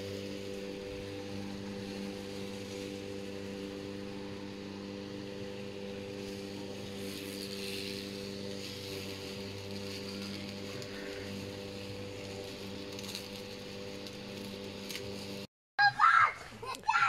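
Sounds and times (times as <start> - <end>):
steady machine hum: 0.0 - 15.5.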